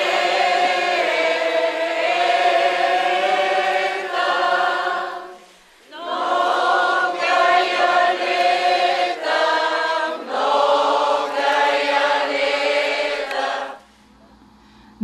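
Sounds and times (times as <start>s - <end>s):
choir singing: 0.0s - 13.8s.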